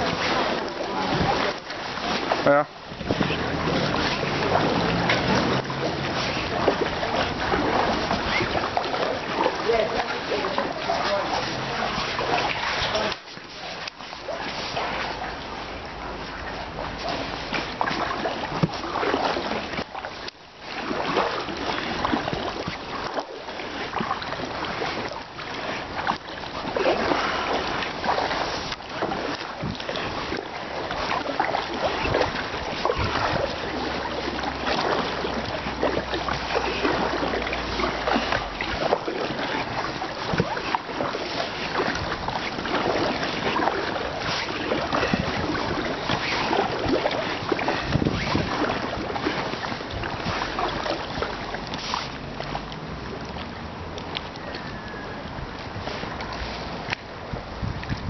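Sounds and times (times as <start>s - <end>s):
wind on microphone: 0.0s - 13.2s, 23.9s - 58.0s
kayak paddles splashing water: 0.0s - 58.0s.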